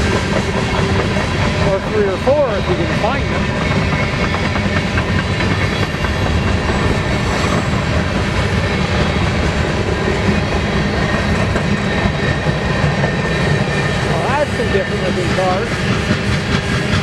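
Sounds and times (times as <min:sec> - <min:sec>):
freight train cars rumbling past: 0:00.0 - 0:17.0
steel wheels clattering on rails: 0:00.0 - 0:17.0.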